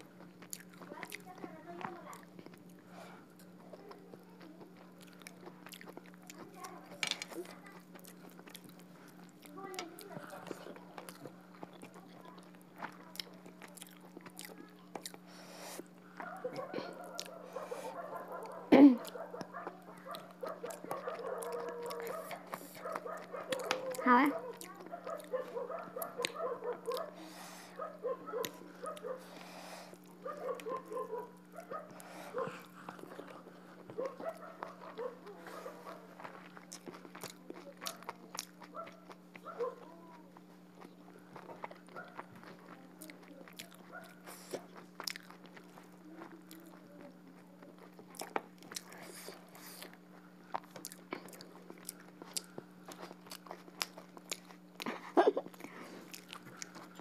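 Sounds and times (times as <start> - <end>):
chewing and lip smacks: 0.0 - 57.0
low electrical hum: 0.0 - 57.0.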